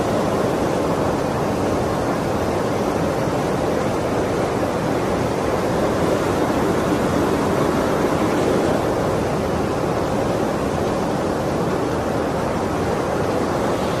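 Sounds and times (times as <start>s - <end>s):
flooding river rushing: 0.0s - 14.0s.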